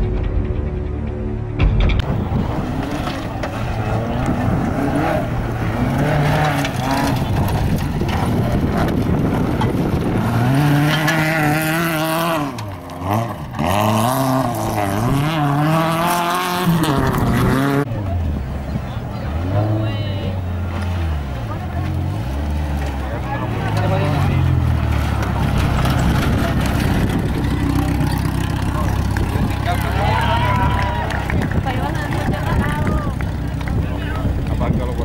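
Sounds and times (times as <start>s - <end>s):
rally car engine revving: 2.0s - 35.0s.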